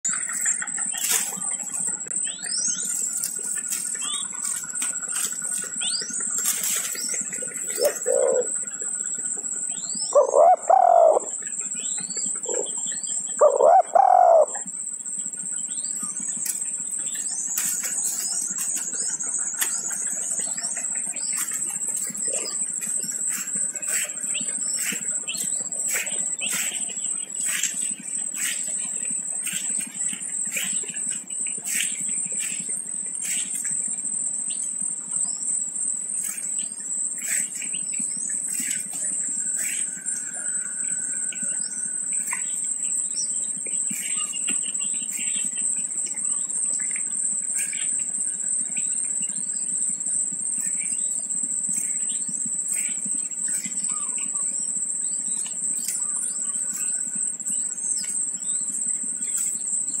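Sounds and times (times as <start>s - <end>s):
high-pitched insect drone: 0.1s - 60.0s.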